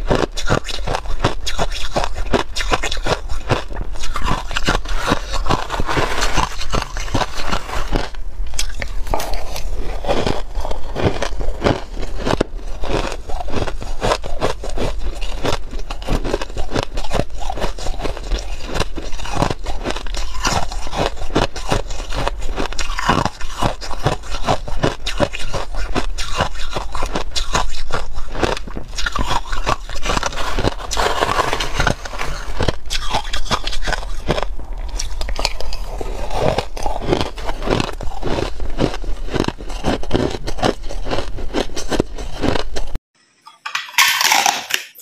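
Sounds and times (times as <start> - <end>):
ice being crunched and chewed: 0.0 - 43.0, 43.8 - 45.0.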